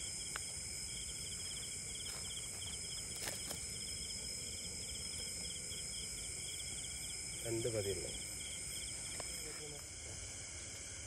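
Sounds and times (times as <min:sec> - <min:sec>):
insects shrilling: 0:00.0 - 0:11.0.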